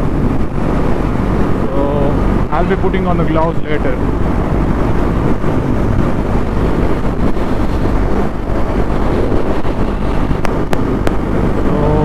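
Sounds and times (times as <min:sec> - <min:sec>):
motorcycle engine running: 0:00.0 - 0:03.2, 0:04.0 - 0:12.0
wind rumble on microphone: 0:00.0 - 0:12.0.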